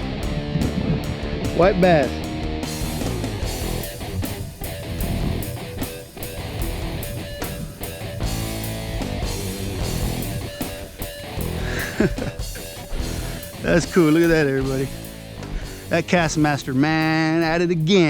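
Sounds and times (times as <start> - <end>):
guitar rock music: 0.0 - 18.0.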